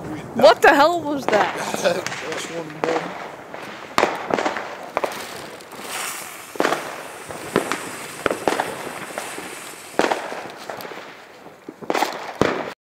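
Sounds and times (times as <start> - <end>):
fireworks bangs with echo: 0.2 - 12.8.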